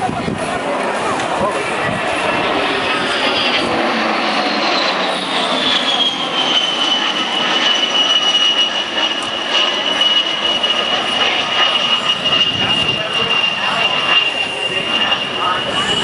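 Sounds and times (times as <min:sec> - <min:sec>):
jet engines roaring with whine: 0:00.0 - 0:16.0.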